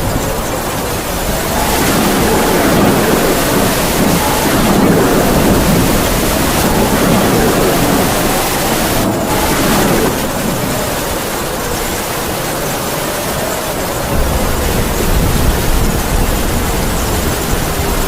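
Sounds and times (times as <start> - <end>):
heavy rain falling: 0.0 - 18.0
wind howling: 0.0 - 18.0.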